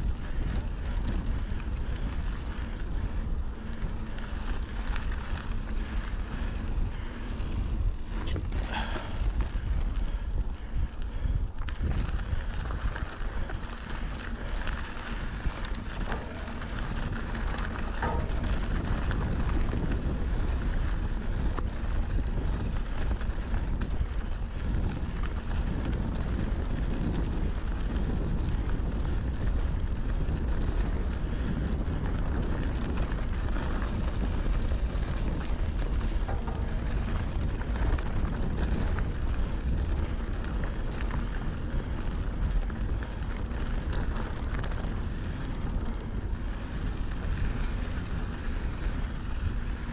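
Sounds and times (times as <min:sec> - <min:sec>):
bike tyres rolling over dirt: 0:00.0 - 0:49.9
small clicks and rattles: 0:00.0 - 0:49.9
wind rushing over microphone: 0:00.0 - 0:49.9.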